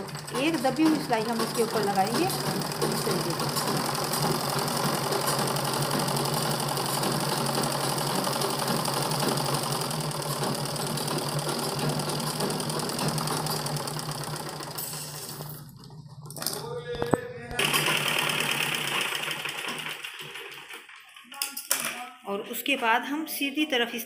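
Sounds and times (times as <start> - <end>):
sewing machine stitching: 0.0 - 16.6, 17.6 - 21.1.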